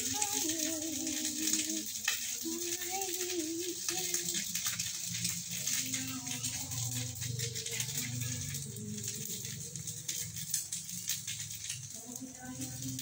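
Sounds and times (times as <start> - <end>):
person singing slow melody: 0.0 - 10.2, 11.8 - 13.0
batter sizzling: 0.0 - 13.0
wood fire crackling: 0.0 - 13.0.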